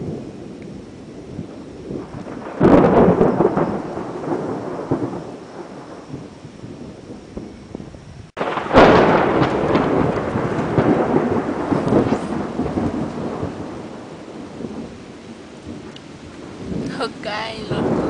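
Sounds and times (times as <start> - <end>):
thunderclap crack and rumble: 0.0 - 18.0.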